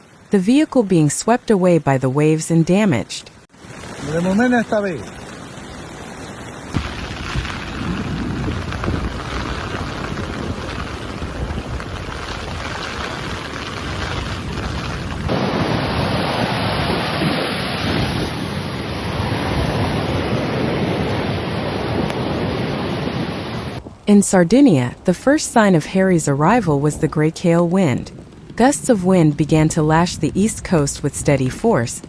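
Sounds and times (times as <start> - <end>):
rushing water: 3.5 - 32.0
wind roaring: 5.0 - 32.0.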